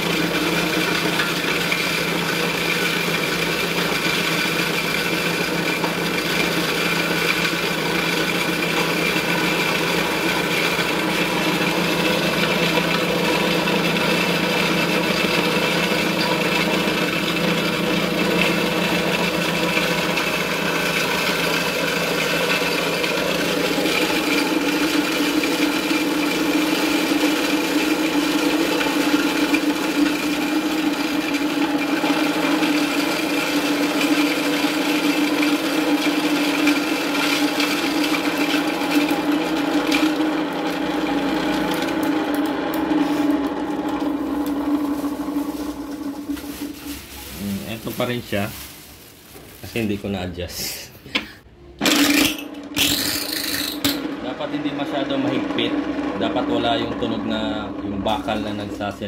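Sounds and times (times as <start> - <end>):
electric grinder grinding corn: 0.0 - 50.3, 51.8 - 59.0.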